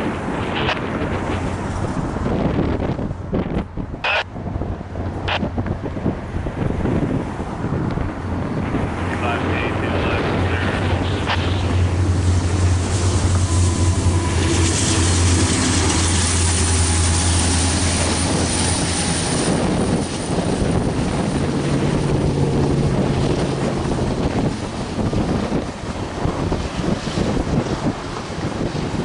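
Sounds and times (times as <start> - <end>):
diesel locomotive engines droning: 0.0 - 29.0.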